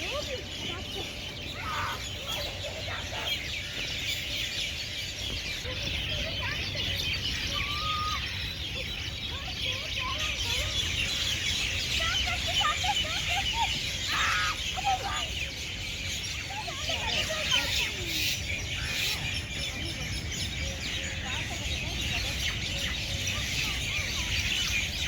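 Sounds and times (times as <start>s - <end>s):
lower wavering bird calls: 0.0s - 25.0s
small birds chirping: 0.0s - 25.0s.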